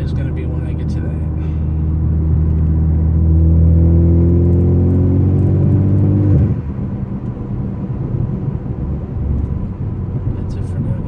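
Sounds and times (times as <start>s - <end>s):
car exhaust drone: 0.0s - 11.0s.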